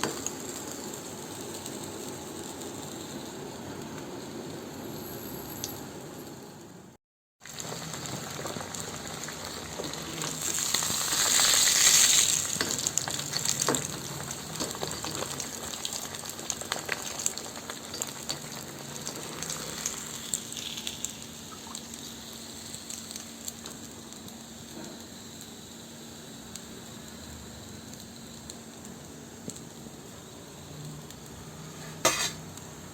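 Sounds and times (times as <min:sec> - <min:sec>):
fish frying in hot oil: 0:00.0 - 0:05.7, 0:07.4 - 0:32.9.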